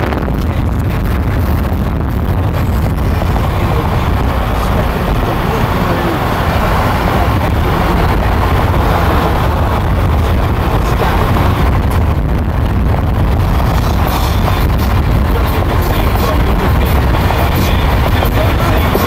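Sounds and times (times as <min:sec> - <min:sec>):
vehicle rumble: 0:00.0 - 0:19.0
wind buffeting microphone: 0:00.0 - 0:19.0.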